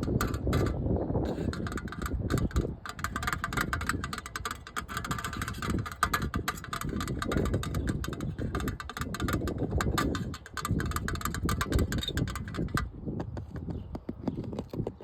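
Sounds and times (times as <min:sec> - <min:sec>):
handling rumble: 0:00.0 - 0:15.0
tapping and scratching on hard surface: 0:00.0 - 0:15.0.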